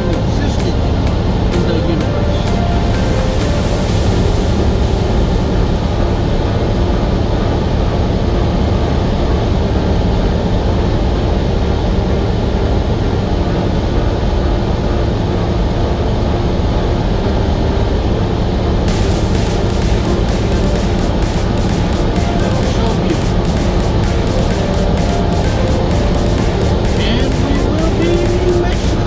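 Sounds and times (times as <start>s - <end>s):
tyres on the road: 0.0s - 29.0s.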